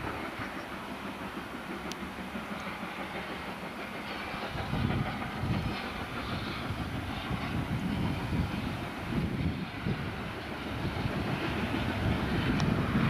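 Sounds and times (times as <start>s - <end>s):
distant steam locomotive rumble and hiss: 0.0s - 13.0s.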